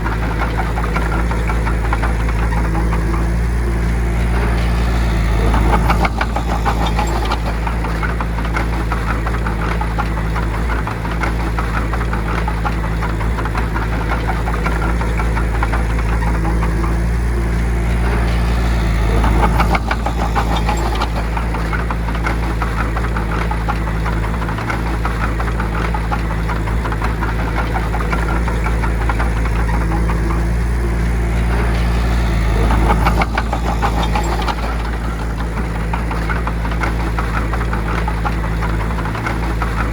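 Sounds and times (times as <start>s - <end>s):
bulldozer diesel engine clattering: 0.0s - 39.9s.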